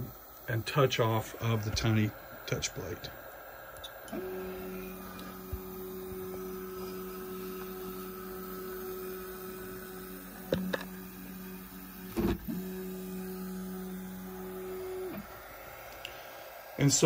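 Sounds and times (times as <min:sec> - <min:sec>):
stepper motor whine: 0:00.0 - 0:17.0.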